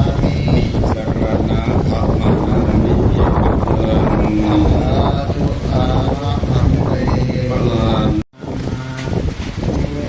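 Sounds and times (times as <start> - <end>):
faint voices: 0.0 - 10.0
wind buffeting microphone: 0.0 - 10.0.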